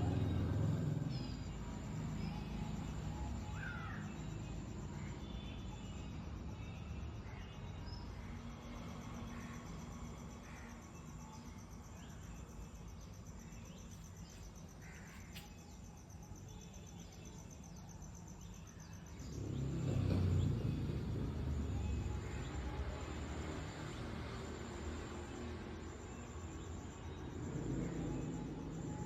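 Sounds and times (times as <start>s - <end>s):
high insect trill: 0.0s - 29.0s.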